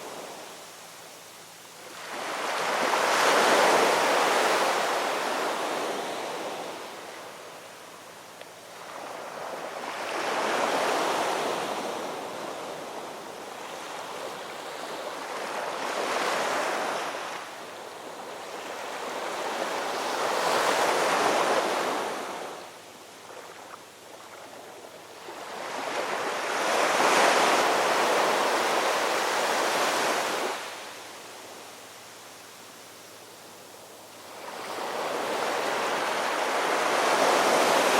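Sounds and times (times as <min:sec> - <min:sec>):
ocean waves washing onto shore: 0:00.0 - 0:37.9.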